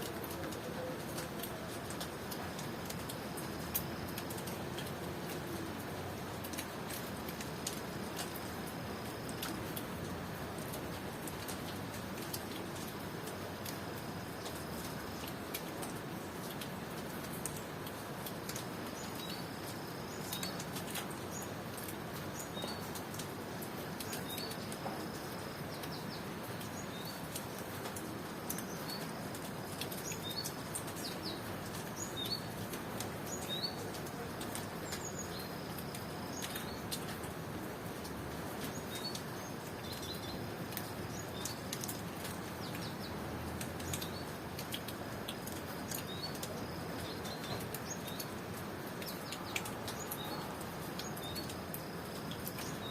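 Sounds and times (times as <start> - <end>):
rain falling: 0.0 - 52.9
water dripping: 0.0 - 52.9.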